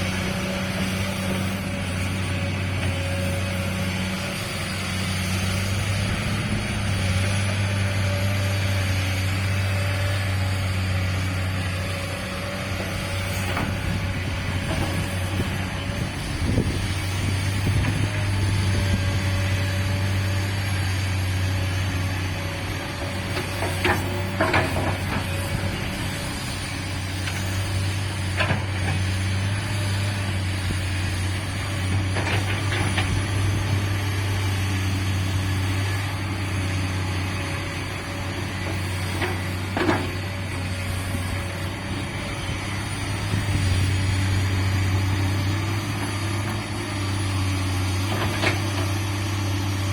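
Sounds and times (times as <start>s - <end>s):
excavator diesel engine drone: 0.0s - 49.9s.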